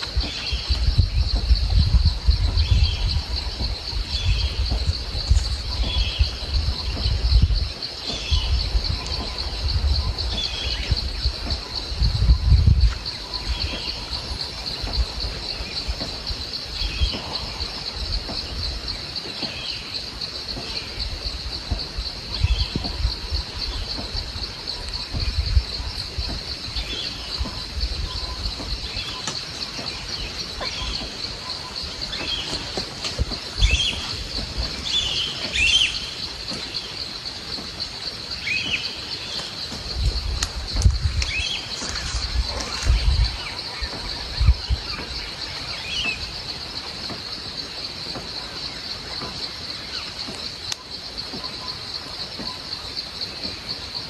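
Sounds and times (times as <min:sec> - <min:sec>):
insects buzzing: 0:00.0 - 0:54.0
wind rumble on microphone: 0:00.0 - 0:54.0.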